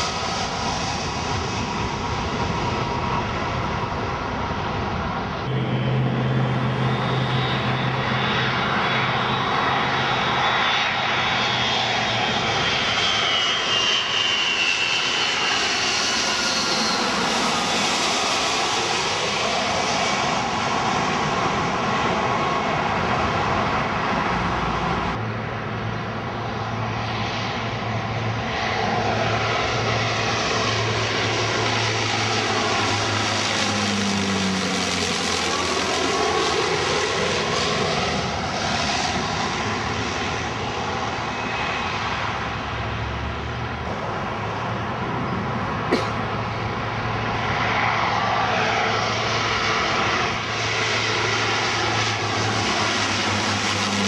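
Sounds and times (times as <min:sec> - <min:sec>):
jet airliner passing overhead: 0:00.0 - 0:54.0
landing aircraft engine: 0:00.0 - 0:54.0.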